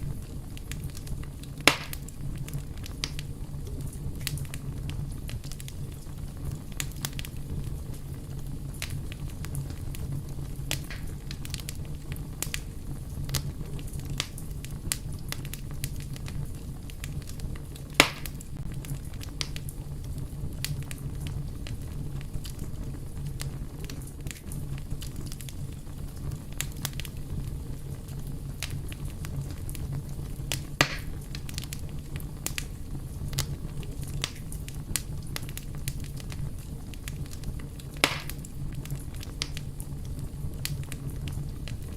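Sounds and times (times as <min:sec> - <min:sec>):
loud fire pops: 0:00.0 - 0:41.9
wood fire crackling: 0:00.0 - 0:41.9.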